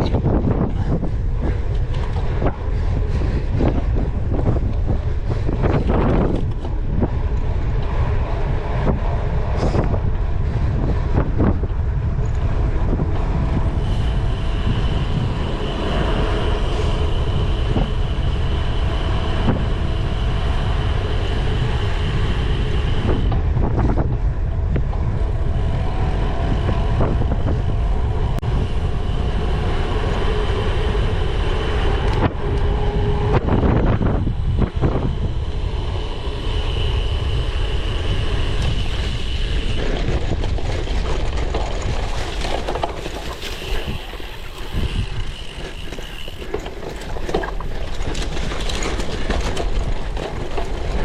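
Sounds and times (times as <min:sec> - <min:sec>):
bike rattling over rough ground: 0:00.0 - 0:51.0
faint high whine: 0:00.0 - 0:51.0
wind on microphone: 0:00.0 - 0:51.0.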